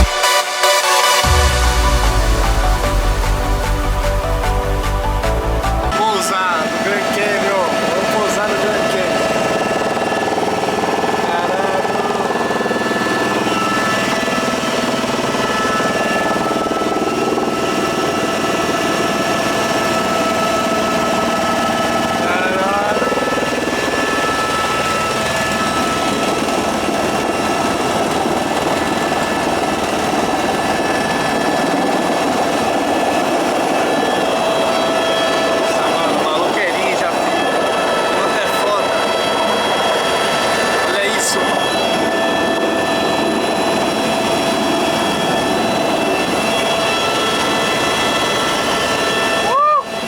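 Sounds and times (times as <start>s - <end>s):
helicopter roaring: 0.0s - 50.0s
helicopter whining tones: 0.0s - 50.0s.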